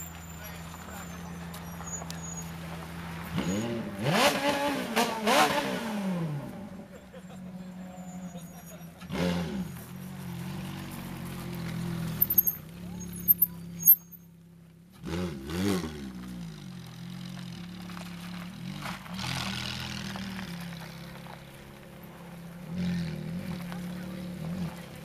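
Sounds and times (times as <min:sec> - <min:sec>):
sports car engine idling and revving: 0:00.0 - 0:25.0.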